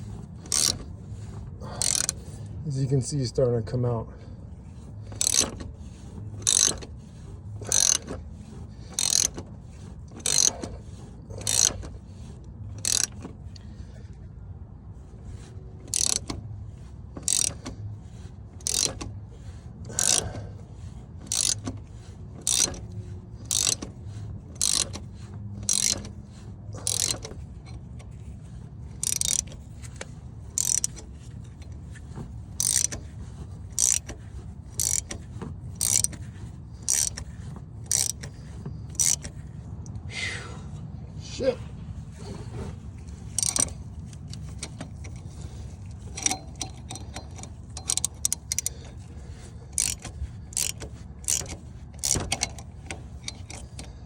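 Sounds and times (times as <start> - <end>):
steady low hum: 0.0 - 54.0
ratchet wrench clicking: 0.4 - 2.5, 4.7 - 13.7, 15.3 - 40.0, 43.0 - 54.0.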